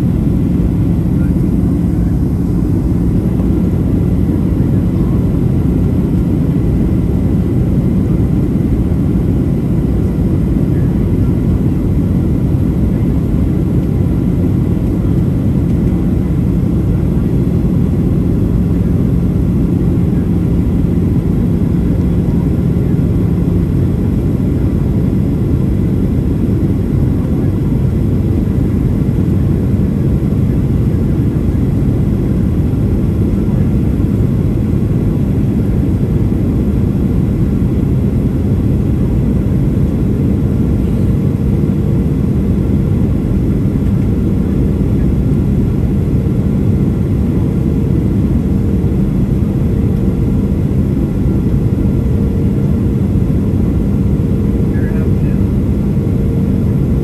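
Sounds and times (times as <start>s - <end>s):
airplane cabin engine rumble: 0.0s - 57.0s
faint constant hum: 0.0s - 57.0s.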